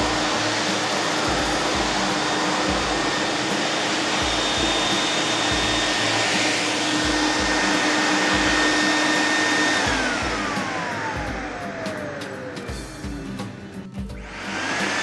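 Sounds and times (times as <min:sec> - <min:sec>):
vacuum cleaner suction with whine: 0:00.0 - 0:15.0.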